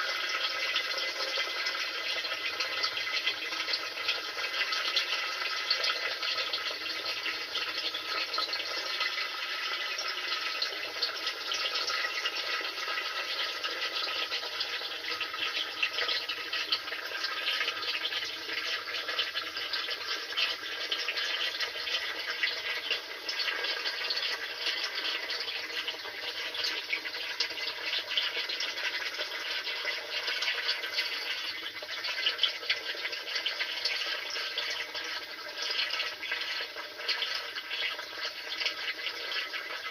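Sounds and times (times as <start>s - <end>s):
water rushing in washing machine: 0.0s - 39.9s.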